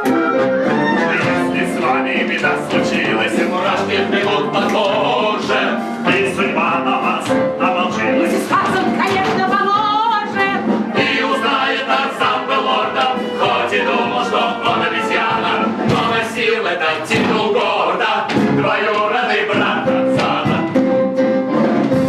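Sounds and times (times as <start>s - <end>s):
backing music with percussive beat: 0.0s - 22.0s
voices singing together: 0.9s - 9.6s, 10.2s - 21.0s.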